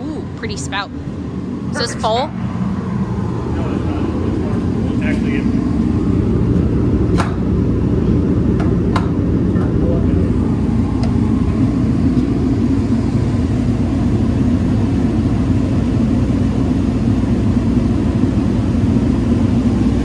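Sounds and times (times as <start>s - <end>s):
space heater rumbling: 0.0s - 20.0s.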